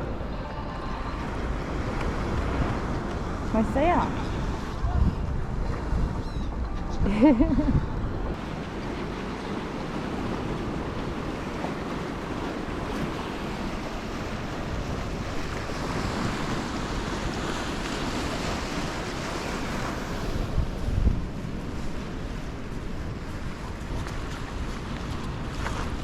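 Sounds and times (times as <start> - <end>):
sea surf washing onto beach: 0.0 - 6.2, 7.1 - 26.0
wind rumbling on microphone: 0.0 - 26.0.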